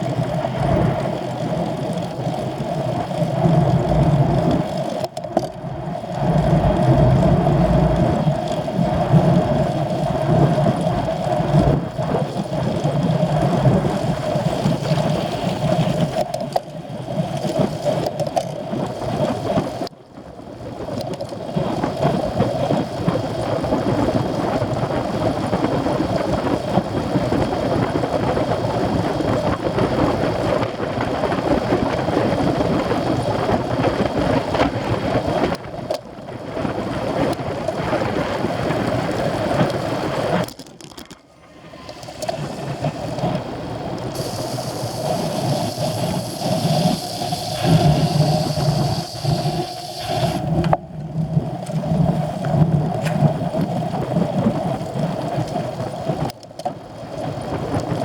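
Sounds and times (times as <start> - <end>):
rushing wind: 0.0 - 19.8, 20.6 - 58.0
bicycle tyre noise: 0.0 - 19.9, 20.8 - 58.0.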